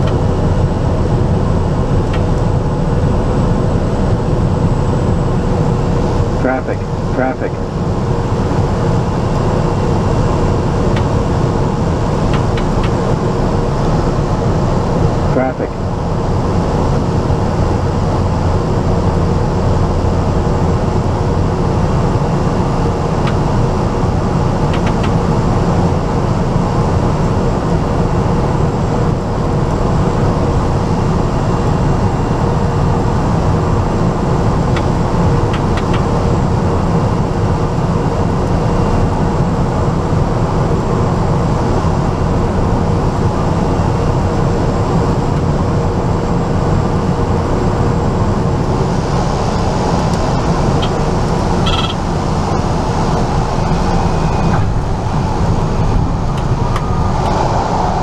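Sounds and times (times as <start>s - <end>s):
light aircraft cabin drone: 0.0s - 58.0s.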